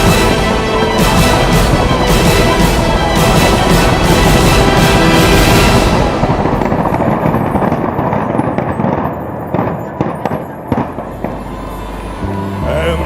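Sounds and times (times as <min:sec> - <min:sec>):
sharp firework bangs: 0:00.0 - 0:11.6
fireworks crackling: 0:00.0 - 0:12.2.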